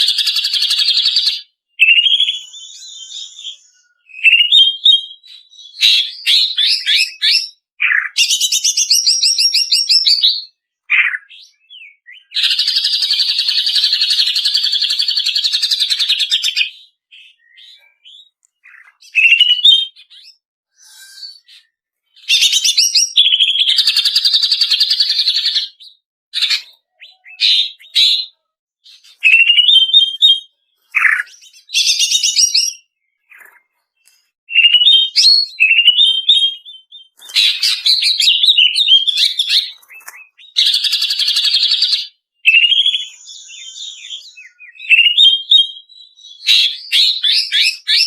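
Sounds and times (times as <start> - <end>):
bird singing trills and whistles: 0.0 - 48.0.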